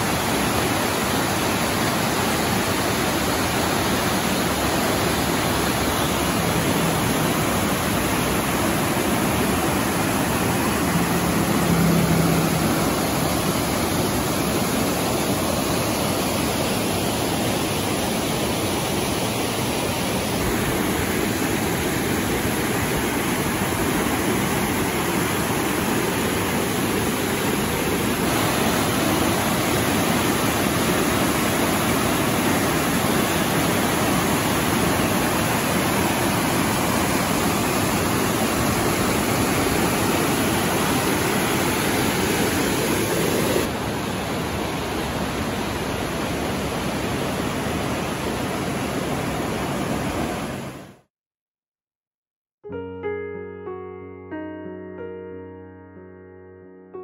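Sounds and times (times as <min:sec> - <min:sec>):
creek rushing over boulders: 0:00.0 - 0:51.1.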